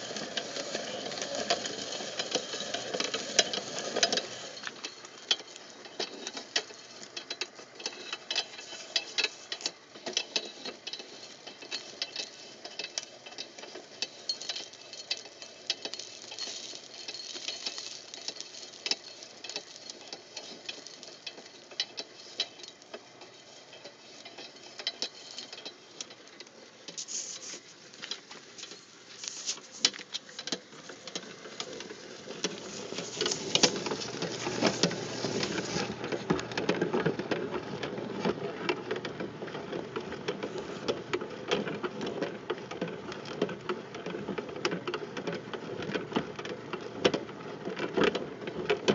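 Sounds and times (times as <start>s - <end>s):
feed auger clicking and ticking: 0.0s - 48.9s.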